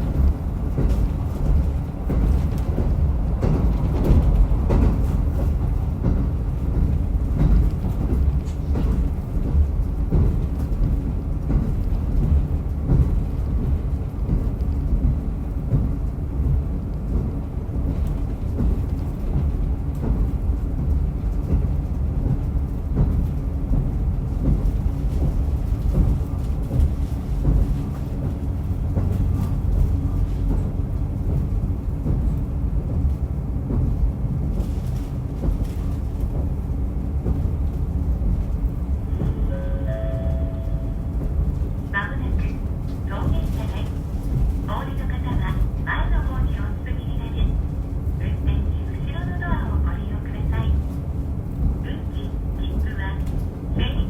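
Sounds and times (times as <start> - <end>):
railcar engine and wheels rumbling: 0.0 - 54.0.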